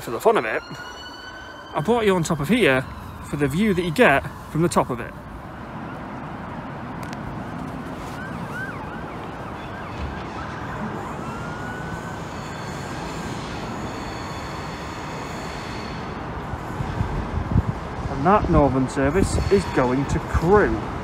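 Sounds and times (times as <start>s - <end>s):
distant siren: 0.0s - 21.0s
town traffic rumble: 0.0s - 21.0s
wind: 0.0s - 21.0s.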